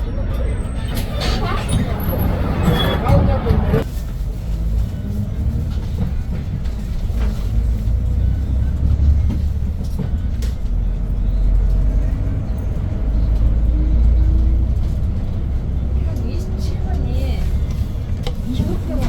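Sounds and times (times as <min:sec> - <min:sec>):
bus engine low rumble: 0:00.0 - 0:19.0
road noise: 0:00.0 - 0:19.0.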